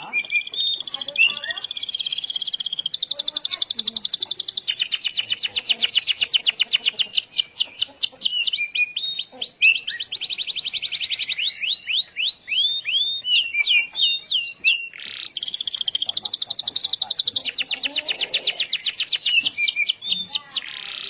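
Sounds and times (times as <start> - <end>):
canary singing trills: 0.0 - 21.0.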